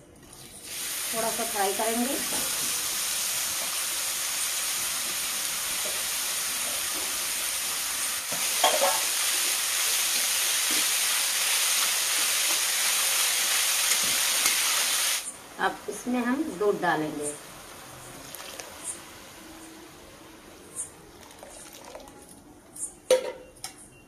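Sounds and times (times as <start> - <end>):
vegetable sizzling in hot fat: 0.6 - 22.0.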